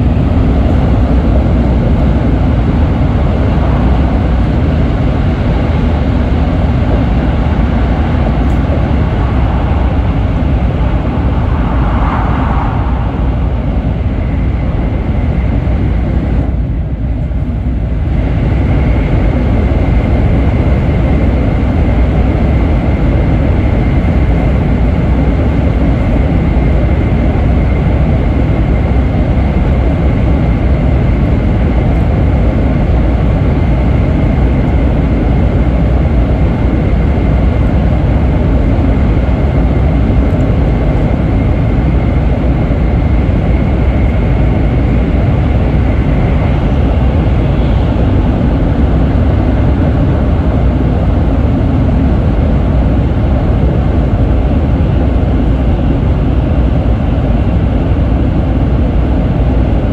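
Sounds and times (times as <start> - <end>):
train rumble and rushing air: 0.0 - 59.9.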